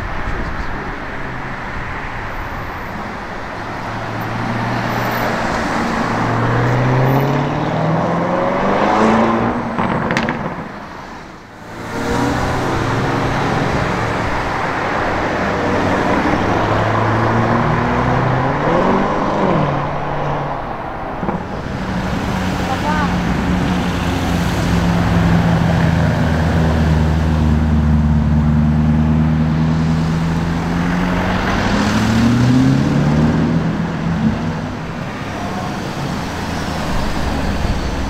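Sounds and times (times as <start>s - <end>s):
car engine accelerating: 3.5s - 38.0s.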